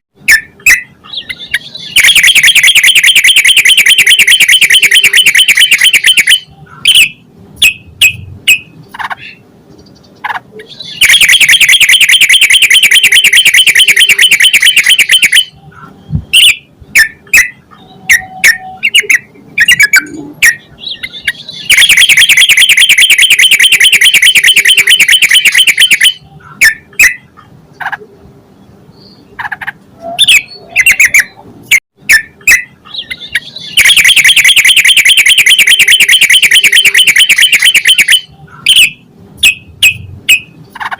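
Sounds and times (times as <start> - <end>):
bird chirping: 0.2 - 31.4, 32.0 - 40.9.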